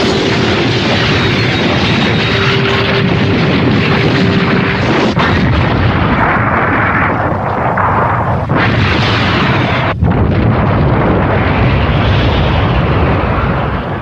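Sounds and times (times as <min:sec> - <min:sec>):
explosion blasts and rumbling: 0:00.0 - 0:14.0
steady hum: 0:00.0 - 0:14.0.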